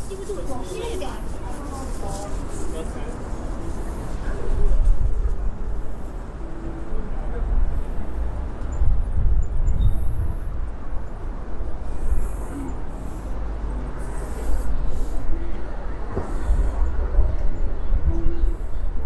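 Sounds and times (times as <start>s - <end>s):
low rumble of passing traffic: 0.0s - 19.0s.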